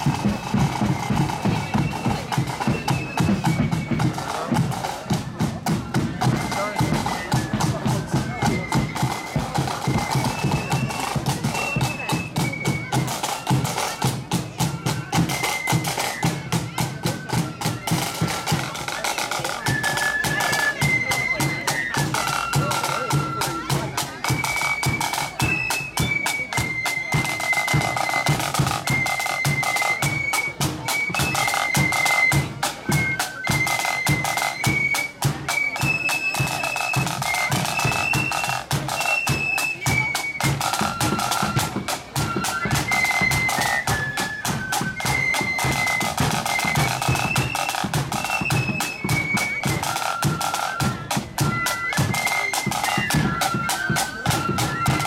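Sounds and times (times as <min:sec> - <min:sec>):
marching band melody: 0:00.0 - 0:55.0
side drum beating: 0:00.0 - 0:55.0.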